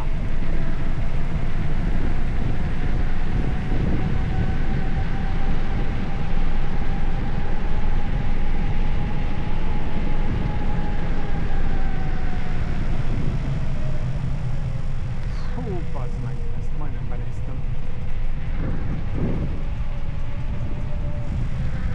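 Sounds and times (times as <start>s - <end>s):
faint steady whine: 0.0s - 21.9s
wind rushing over microphone: 0.0s - 21.9s.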